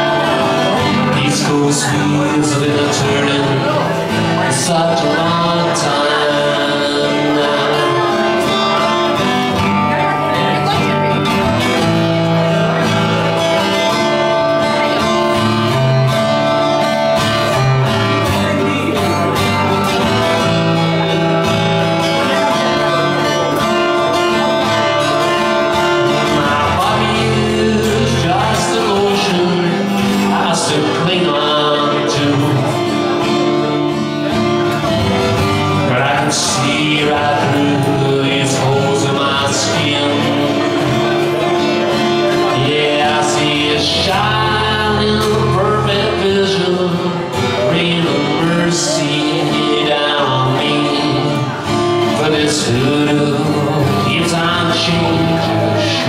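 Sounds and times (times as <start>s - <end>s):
acoustic guitar playing: 0.0s - 56.0s
person singing: 0.0s - 56.0s.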